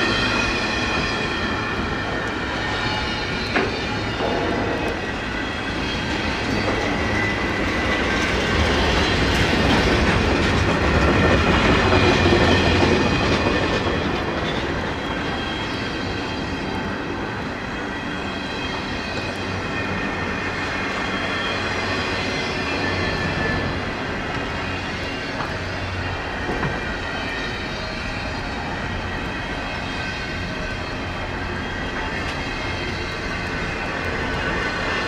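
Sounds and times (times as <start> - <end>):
freight train rumbling past: 0.0 - 35.0
high wheel squeal: 0.0 - 35.0.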